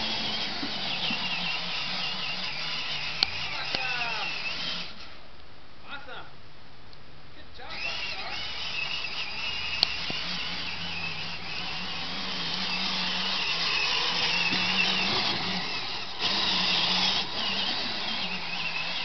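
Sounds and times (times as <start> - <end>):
toy car motor whining: 0.0 - 5.2, 7.7 - 19.0.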